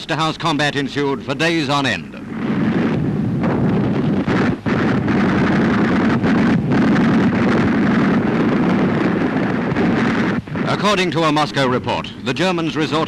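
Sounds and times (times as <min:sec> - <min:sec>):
dense battle rumbling: 0:00.0 - 0:13.0.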